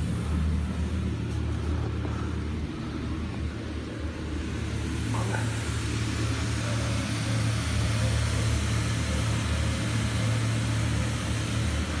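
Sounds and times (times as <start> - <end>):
electric air blower humming: 0.0 - 12.0.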